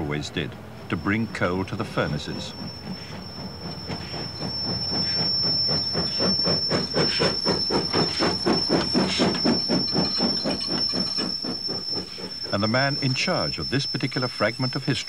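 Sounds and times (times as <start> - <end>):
steam locomotive exhaust chuffs: 0.0 - 15.0
hissing steam: 0.9 - 15.0.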